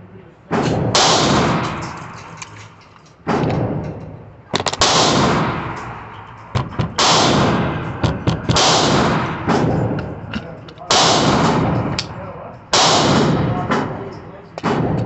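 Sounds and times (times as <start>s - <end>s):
gunshots echoing indoors: 0.5s - 15.0s.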